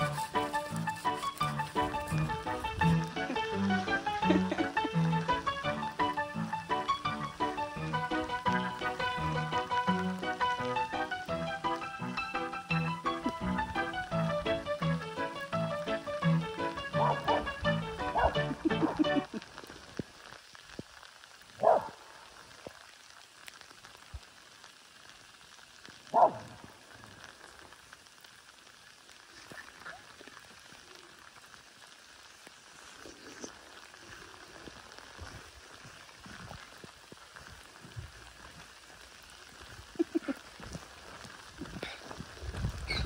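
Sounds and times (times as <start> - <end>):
light rain on wet road: 0.0 - 43.0.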